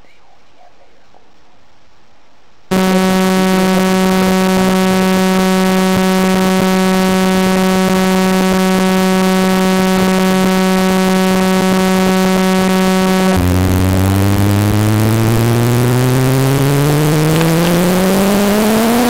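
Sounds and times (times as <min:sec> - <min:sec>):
buzzy synthetic tone: 0:02.7 - 0:19.0.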